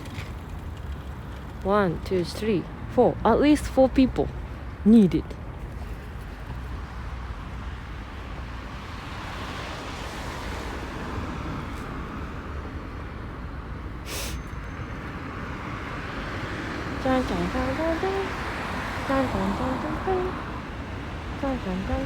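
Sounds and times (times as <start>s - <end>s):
passing road traffic: 0.0s - 22.0s.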